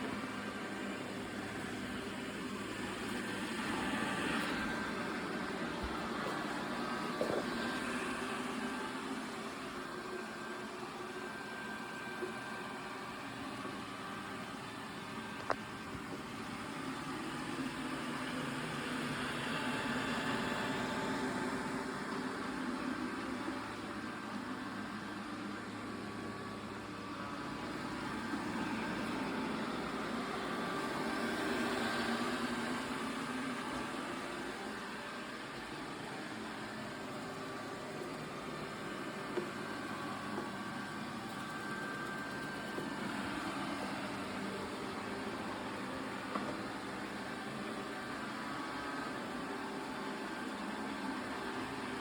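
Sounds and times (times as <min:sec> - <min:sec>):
robot vacuum whirring: 0:00.0 - 0:52.0.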